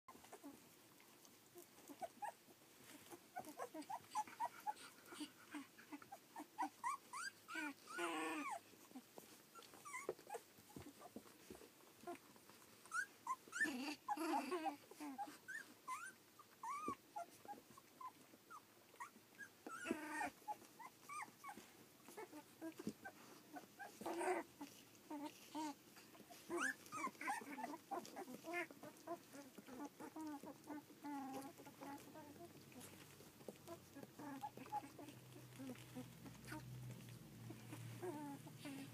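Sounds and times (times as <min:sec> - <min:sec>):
puppies squeaking and whimpering: 0:01.5 - 0:38.9.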